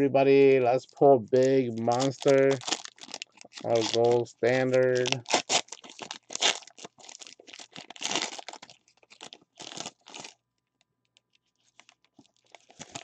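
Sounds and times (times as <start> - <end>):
foil pack crinkling: 1.4 - 10.4, 11.2 - 13.0.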